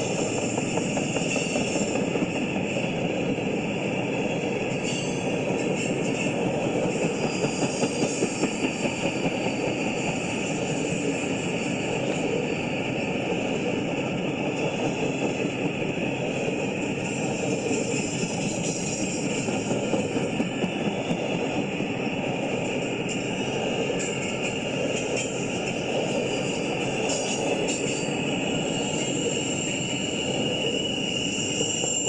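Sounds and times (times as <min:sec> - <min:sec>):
freight train wheels rumbling: 0:00.0 - 0:32.0
rhythmic train clatter: 0:00.0 - 0:32.0.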